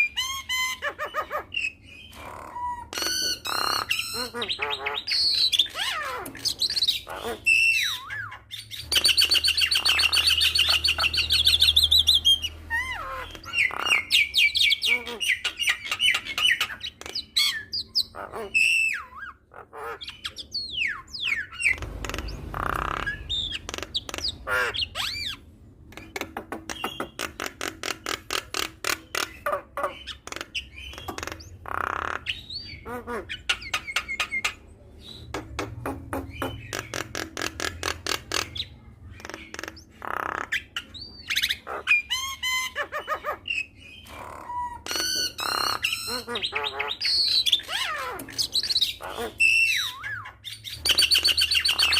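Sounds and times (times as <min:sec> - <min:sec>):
bird singing varied song: 0:00.0 - 0:51.9.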